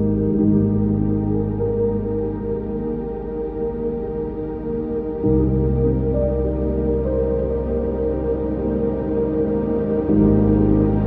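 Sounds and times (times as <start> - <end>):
low drone: 0.0 - 11.0
synthesizer chords: 0.0 - 11.0.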